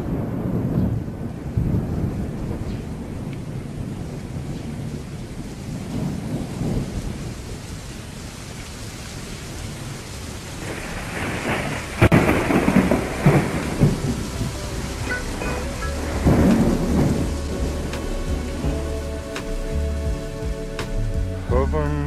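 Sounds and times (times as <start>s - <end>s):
sharp thunderclap: 0.0s - 8.2s, 10.6s - 21.4s
rolling thunder: 0.0s - 21.6s
steady rain: 0.0s - 22.0s.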